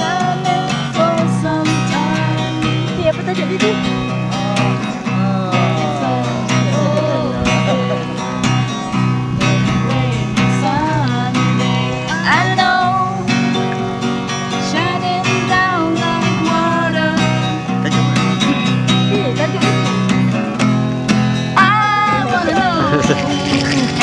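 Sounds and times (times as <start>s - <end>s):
person singing: 0.0s - 13.8s, 14.6s - 19.9s, 21.6s - 24.0s
acoustic guitar strummed: 0.0s - 24.0s.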